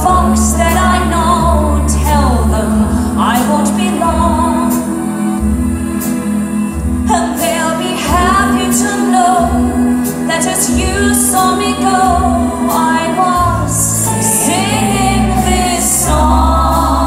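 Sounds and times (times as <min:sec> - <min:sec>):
women singing into microphones: 0:00.0 - 0:17.0.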